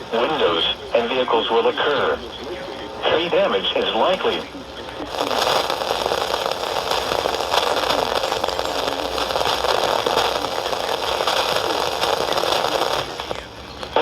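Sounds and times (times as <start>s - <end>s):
radio static hiss and crackle: 0.0s - 14.0s.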